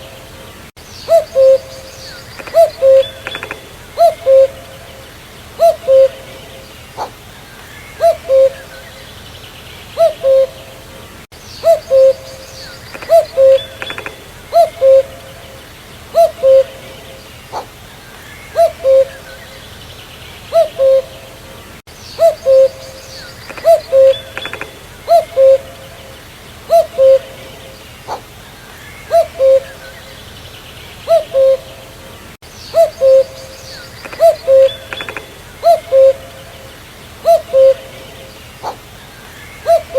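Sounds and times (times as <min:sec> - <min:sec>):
cuckoo calling: 0:00.0 - 0:09.3, 0:09.9 - 0:19.8, 0:20.4 - 0:30.4, 0:31.0 - 0:39.9
birds chirping: 0:00.0 - 0:39.9.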